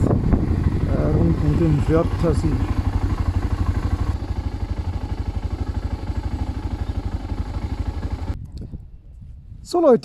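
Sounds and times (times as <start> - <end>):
motorcycle engine thumping: 0.0 - 8.4.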